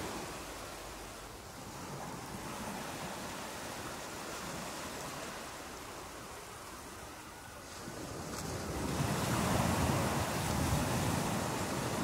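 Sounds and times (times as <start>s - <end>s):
ocean waves washing onto beach: 0.0s - 12.0s.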